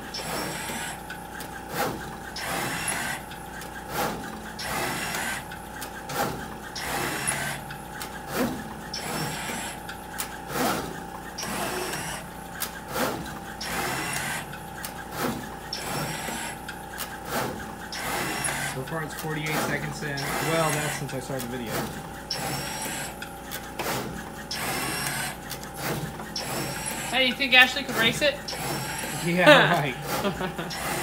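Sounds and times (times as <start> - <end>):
machine steady hum: 0.0 - 31.0
sharp machine clicks: 0.0 - 31.0.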